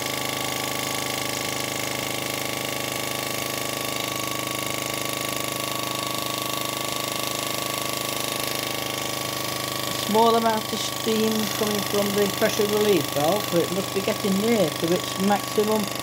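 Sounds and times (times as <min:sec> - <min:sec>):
small steam engine running: 0:00.0 - 0:16.0.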